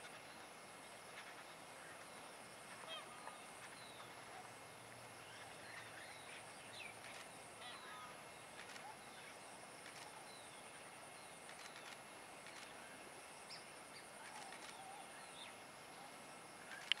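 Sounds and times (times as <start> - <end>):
constant high-pitched whine: 0.0 - 17.0
steady hiss: 0.0 - 17.0.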